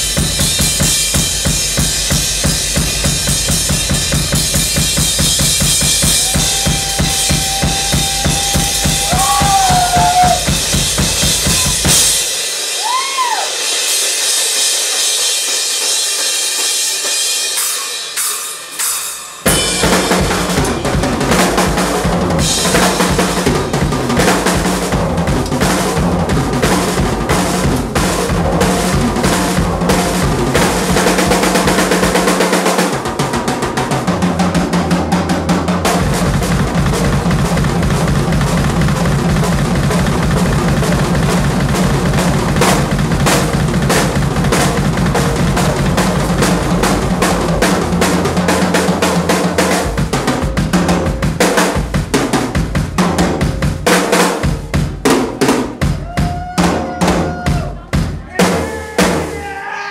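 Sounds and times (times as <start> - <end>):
bass drum: 0.0 - 12.3, 19.4 - 59.6
snare and tom fills: 0.0 - 59.5.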